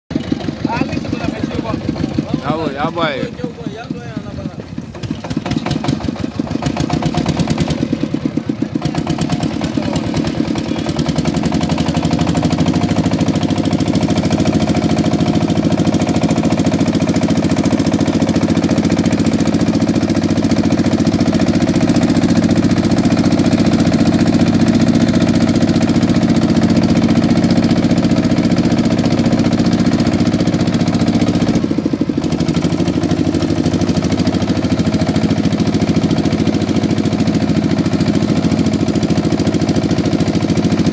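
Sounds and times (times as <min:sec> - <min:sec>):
boat motor running: 0:00.1 - 0:40.9.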